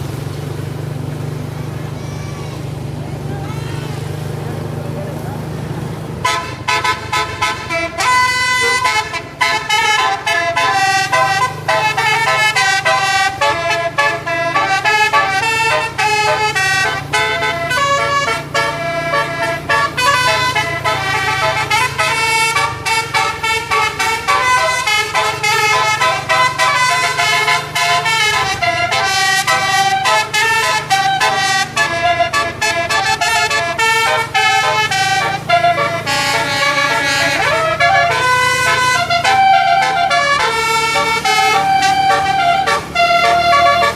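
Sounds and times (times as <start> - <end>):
bus horn playing a melody: 0.7 - 43.9.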